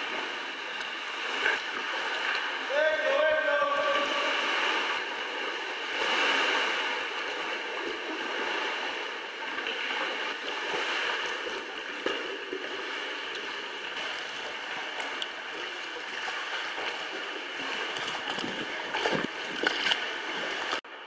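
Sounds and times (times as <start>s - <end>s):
paddle splashes and drips: 0.0s - 20.8s
sea water lapping in a cave: 0.0s - 21.0s.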